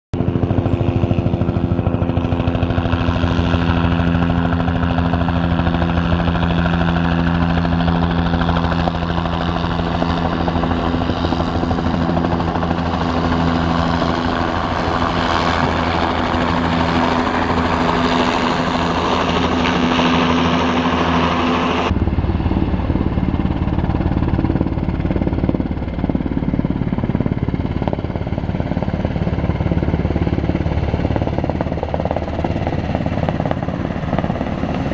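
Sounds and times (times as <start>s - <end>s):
helicopter turbine whine and rotor: 0.2s - 34.9s
pulsing helicopter rotor beat: 0.2s - 34.9s.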